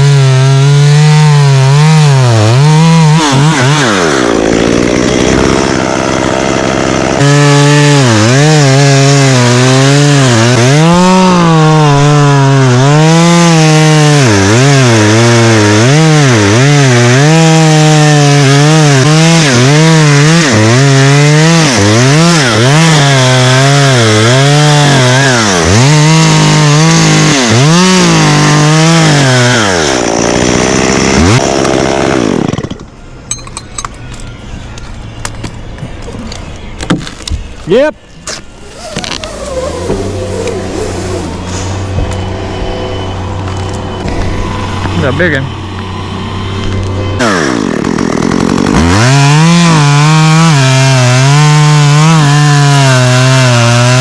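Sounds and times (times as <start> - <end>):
chainsaw cutting wood: 0.0 - 33.0, 36.8 - 54.0.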